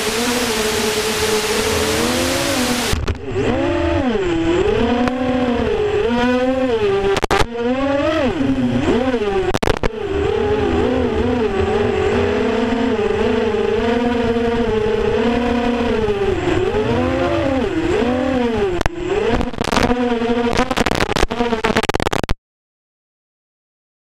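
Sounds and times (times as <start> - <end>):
quadcopter motors whining: 0.0 - 21.7.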